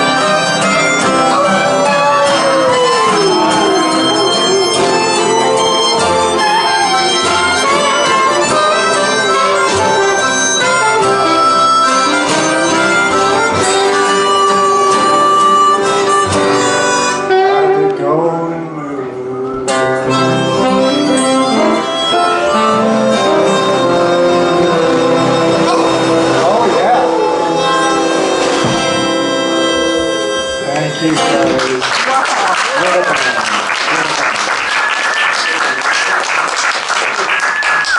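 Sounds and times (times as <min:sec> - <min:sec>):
strummed acoustic guitars: 0:00.0 - 0:31.9
harmonica through microphone: 0:00.0 - 0:32.0
upright bass: 0:00.0 - 0:32.2.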